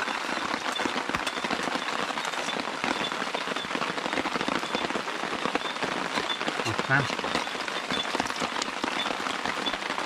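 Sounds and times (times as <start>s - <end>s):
rain pattering on a surface: 0.0s - 10.0s.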